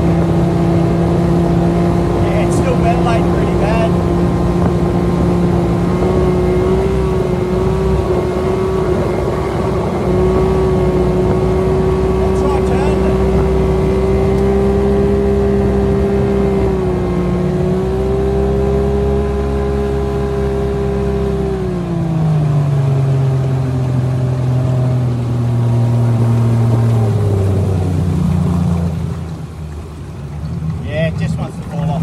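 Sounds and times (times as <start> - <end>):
outboard motor running: 0.0 - 32.0.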